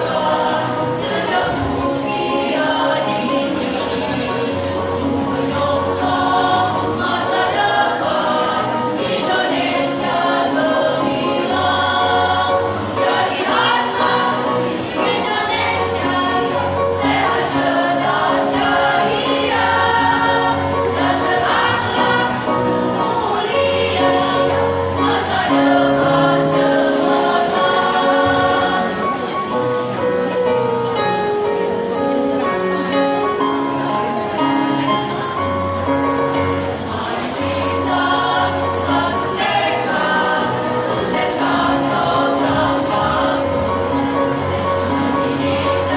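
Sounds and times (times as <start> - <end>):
choir singing sustained notes: 0.0 - 30.1, 33.5 - 45.9.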